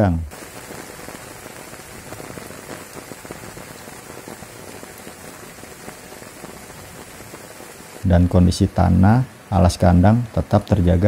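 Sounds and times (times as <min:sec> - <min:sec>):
rain drops ticking: 0:00.0 - 0:11.0.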